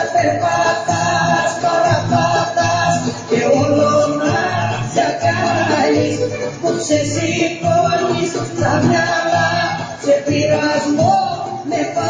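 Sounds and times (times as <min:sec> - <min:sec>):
folk dance music over loudspeakers: 0:00.0 - 0:12.0.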